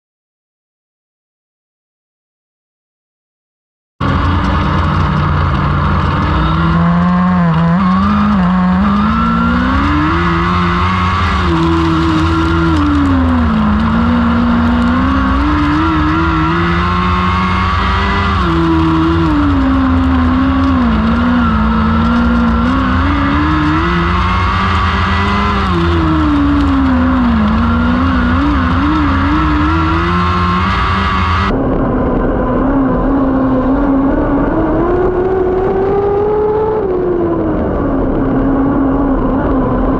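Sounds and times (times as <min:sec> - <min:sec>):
racing engine revving: 0:04.0 - 0:39.9.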